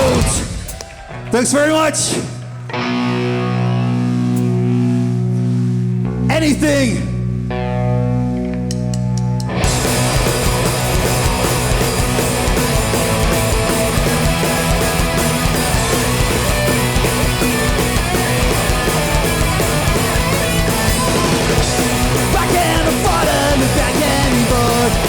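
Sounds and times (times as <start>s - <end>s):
punk band playing live: 0.0s - 1.3s, 2.0s - 25.0s.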